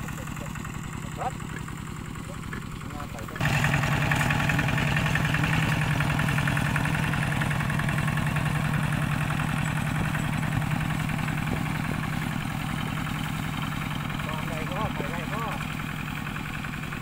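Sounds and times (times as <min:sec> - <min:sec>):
diesel tractor engine chugging: 0:00.0 - 0:17.0.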